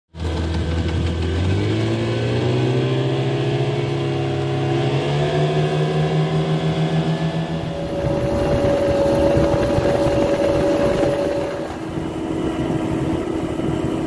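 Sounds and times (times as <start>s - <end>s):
outboard engine running: 0.1s - 14.0s.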